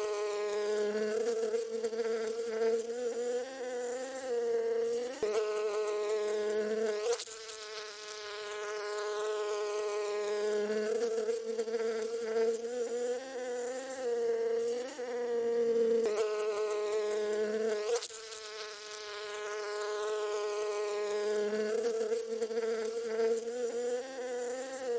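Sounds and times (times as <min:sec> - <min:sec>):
bee buzzing in flight: 0:00.0 - 0:24.9.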